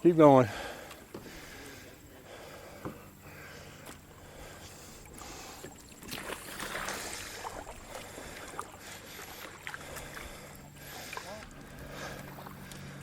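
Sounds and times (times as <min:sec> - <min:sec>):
paddle strokes splashing water: 0:00.5 - 0:13.0.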